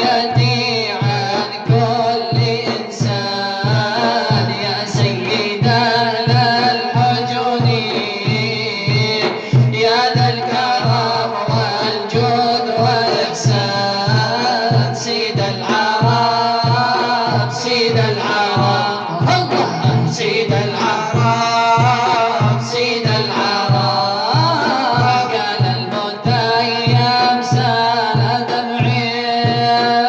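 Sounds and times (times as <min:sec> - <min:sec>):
middle eastern style melody: 0:00.0 - 0:30.0
steady low drum beat: 0:00.0 - 0:30.0.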